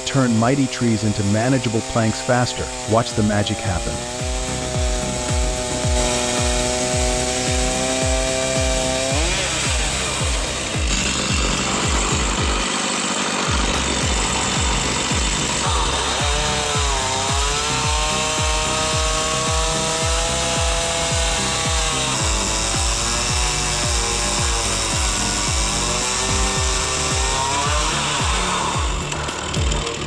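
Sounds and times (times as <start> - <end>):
chainsaw cutting through log: 0.0 - 30.0
music beat: 4.0 - 30.0.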